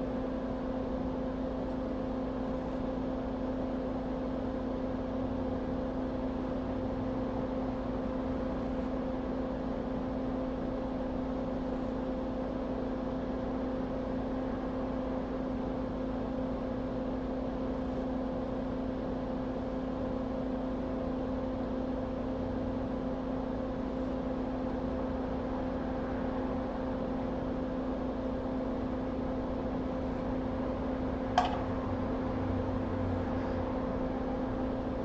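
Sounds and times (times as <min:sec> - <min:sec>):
electric fan whirring: 0:00.0 - 0:35.0.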